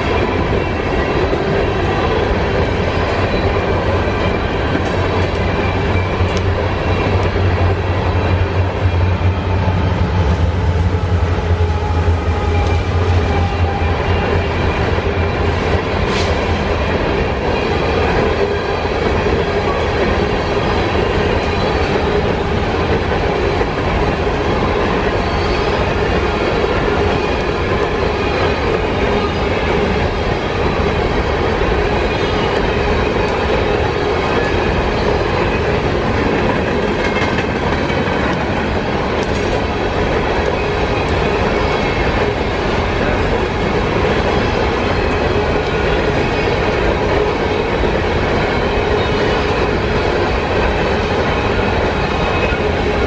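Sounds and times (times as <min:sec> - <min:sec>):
train wheels over rail joints: 0:00.0 - 0:53.0.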